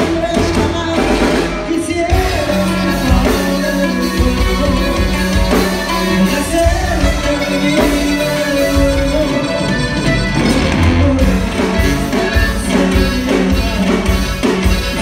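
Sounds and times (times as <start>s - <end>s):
live band with tuba drums guitar: 0.0s - 15.0s
man singing lead: 0.0s - 15.0s.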